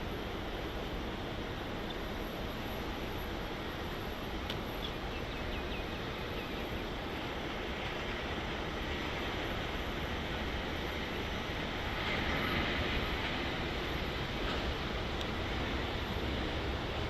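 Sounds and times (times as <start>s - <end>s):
distant jet engines taxiing: 0.0s - 17.0s.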